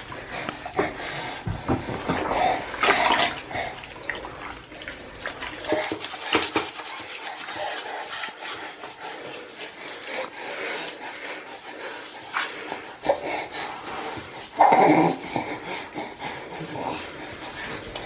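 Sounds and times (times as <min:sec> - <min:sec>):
water splashing in a bath: 0:00.0 - 0:18.0.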